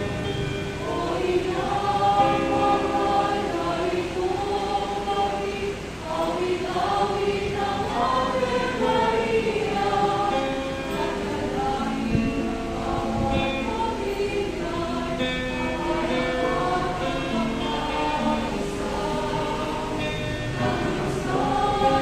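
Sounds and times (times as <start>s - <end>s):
group singing a hymn: 0.0s - 22.0s.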